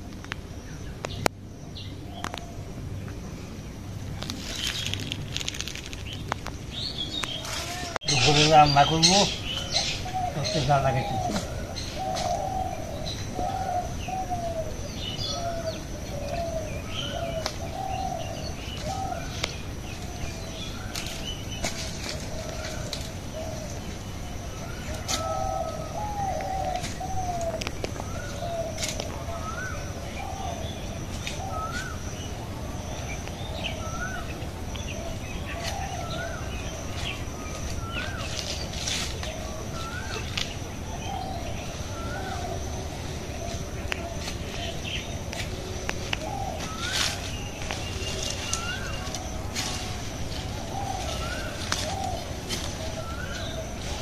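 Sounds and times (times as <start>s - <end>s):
steady high whine: 0.0s - 54.0s
bird low wavering call: 6.8s - 54.0s.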